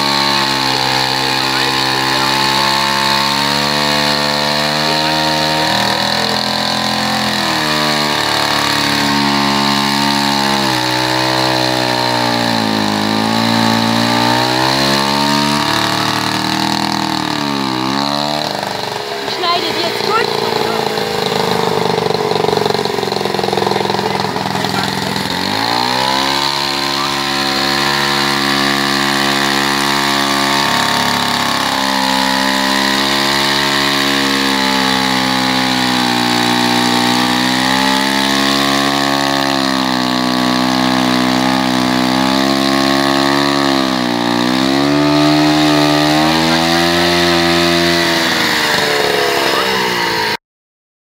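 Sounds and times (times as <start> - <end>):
chainsaw sawing through log: 0.0 - 50.4.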